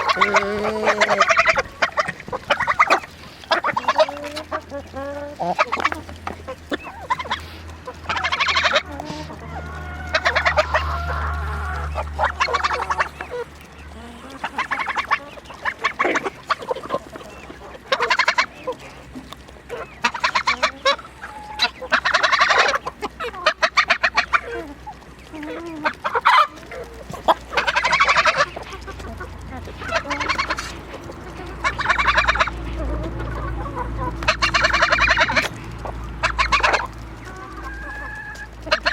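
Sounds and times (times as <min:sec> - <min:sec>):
chickens clucking: 0:00.0 - 0:38.9
low steady rumble: 0:00.0 - 0:38.9.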